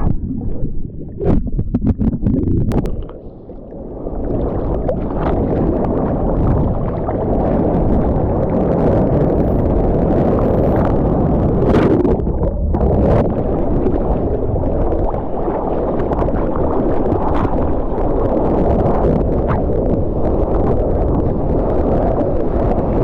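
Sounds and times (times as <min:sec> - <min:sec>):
rushing wind and water: 0:00.0 - 0:23.0.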